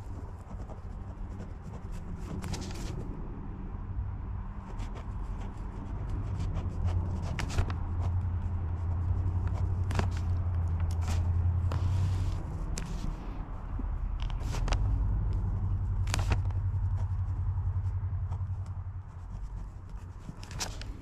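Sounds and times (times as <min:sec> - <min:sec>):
pen writing on paper: 0:00.0 - 0:03.1, 0:04.6 - 0:13.3, 0:14.1 - 0:21.0
steady low rumble: 0:00.0 - 0:21.0.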